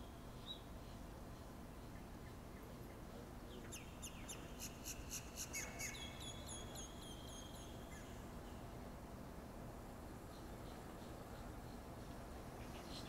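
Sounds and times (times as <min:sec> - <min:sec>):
songbird singing: 0:00.0 - 0:08.8, 0:10.1 - 0:13.0.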